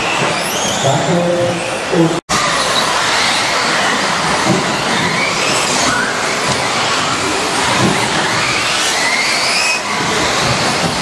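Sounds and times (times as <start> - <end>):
rc car motors whining: 0.0 - 1.0, 2.3 - 11.0.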